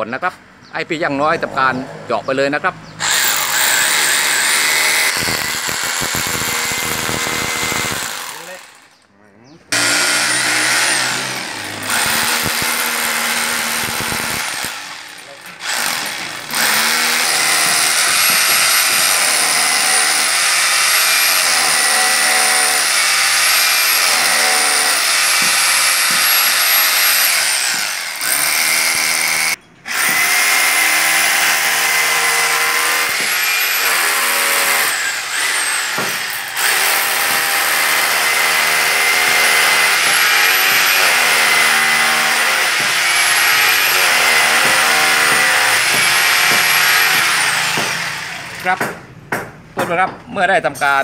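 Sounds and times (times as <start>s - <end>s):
hammer drill boring into concrete: 3.0s - 8.9s, 9.7s - 48.8s.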